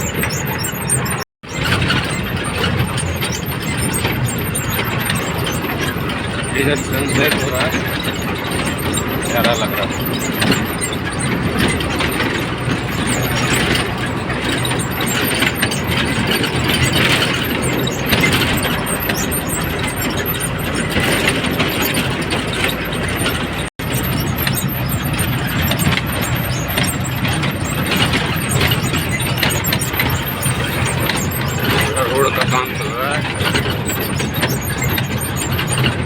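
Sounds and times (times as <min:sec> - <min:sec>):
road noise: 0:00.0 - 0:36.0
truck engine hum: 0:00.0 - 0:36.0.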